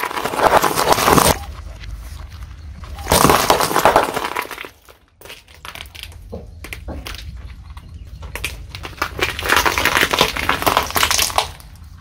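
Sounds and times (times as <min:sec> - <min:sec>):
tyre crushing brittle objects: 0:00.0 - 0:12.0.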